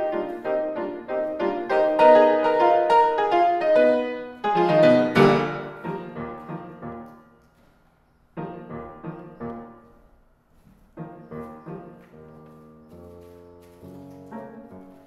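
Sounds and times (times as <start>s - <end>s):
grand piano playing: 0.0s - 15.0s.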